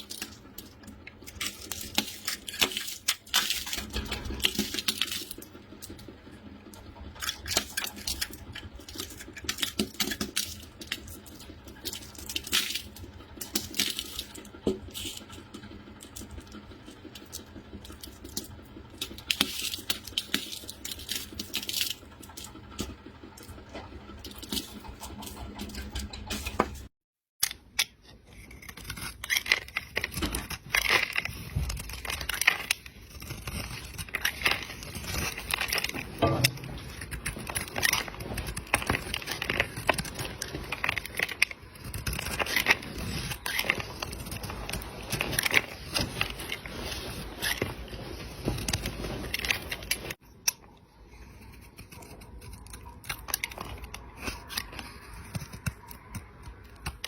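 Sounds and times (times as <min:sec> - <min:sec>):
small crisp clicks and crackles: 0:00.0 - 0:57.0.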